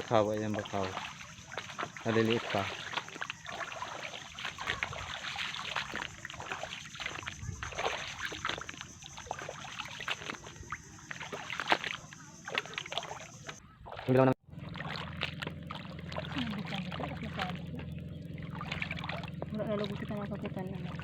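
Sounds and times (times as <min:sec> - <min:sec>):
splashing in shallow water: 0:00.0 - 0:21.0.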